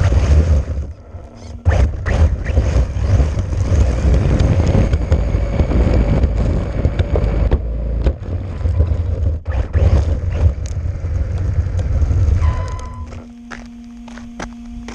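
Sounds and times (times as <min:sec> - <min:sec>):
wind buffeting microphone: 0:00.0 - 0:13.3
rc car motor rumble: 0:00.0 - 0:14.9.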